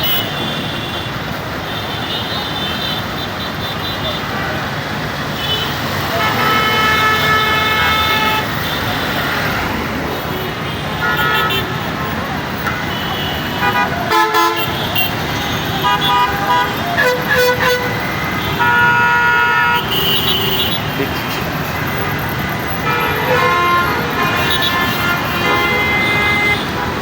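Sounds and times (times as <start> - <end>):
steady traffic noise: 0.0 - 27.0
vehicle horns honking: 0.0 - 27.0.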